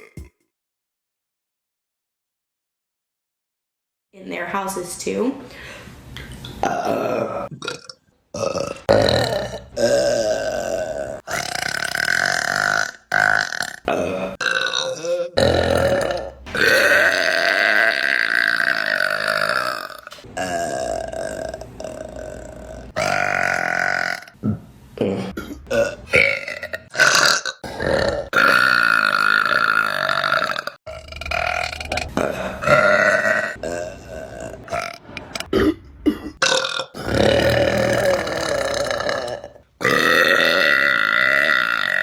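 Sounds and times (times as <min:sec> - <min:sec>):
woman burping: 0:00.0 - 0:00.4, 0:06.6 - 0:42.0.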